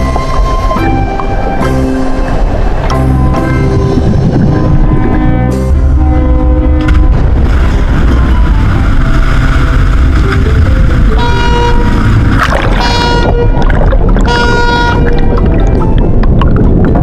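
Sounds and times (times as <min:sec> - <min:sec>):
ship horn toots: 0:00.0 - 0:16.2
rushing water: 0:00.0 - 0:17.0
ship engine rumble: 0:00.0 - 0:17.0.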